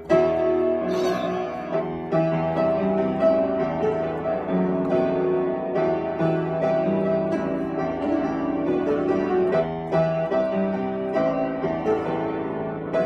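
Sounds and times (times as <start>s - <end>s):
piano playing pop song: 0.0s - 13.0s.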